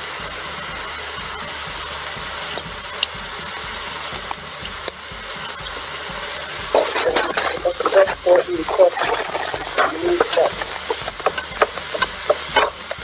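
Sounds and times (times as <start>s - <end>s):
minced meat sizzling in a pot: 0.0s - 13.0s.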